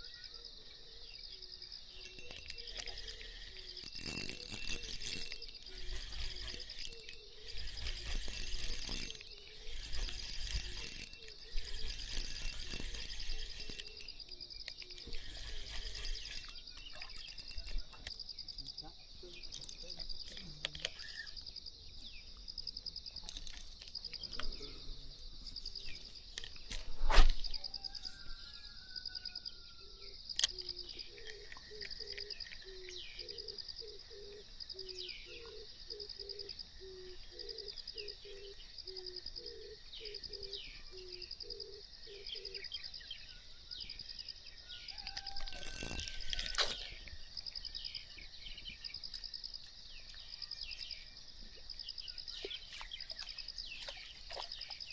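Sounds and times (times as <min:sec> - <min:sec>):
bird chirps: 0:00.0 - 0:22.4, 0:27.4 - 0:49.1
pulsing insect trill: 0:00.0 - 0:54.9.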